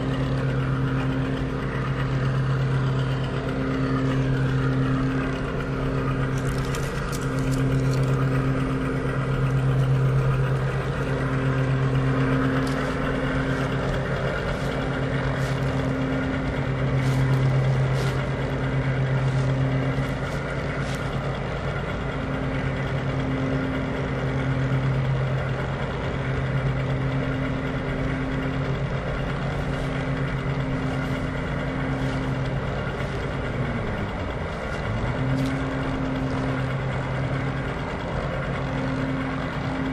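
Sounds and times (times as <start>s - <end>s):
model train mechanical hum: 0.0s - 39.9s
wheels clicking on rails: 0.0s - 39.9s.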